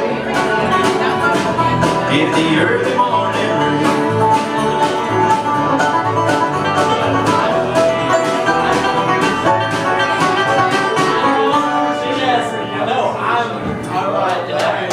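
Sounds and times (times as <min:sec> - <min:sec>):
live band playing: 0:00.0 - 0:13.9
picked strings: 0:00.0 - 0:14.0.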